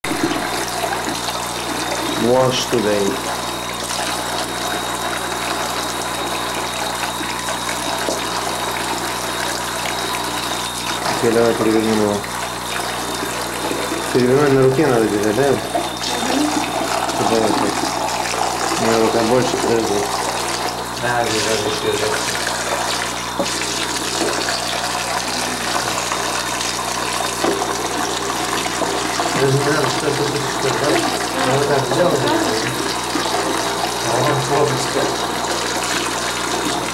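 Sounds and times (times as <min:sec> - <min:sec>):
tap water running into plastic bath: 0:00.0 - 0:36.9.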